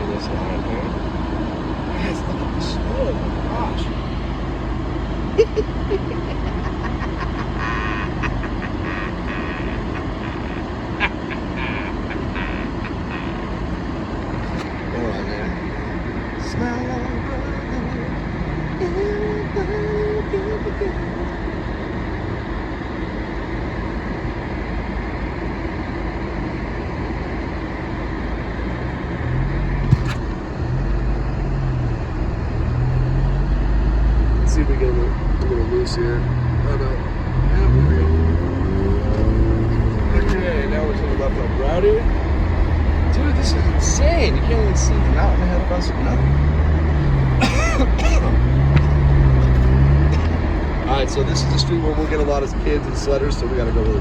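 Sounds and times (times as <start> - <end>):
vehicle road and engine rumble: 0.0 - 54.0.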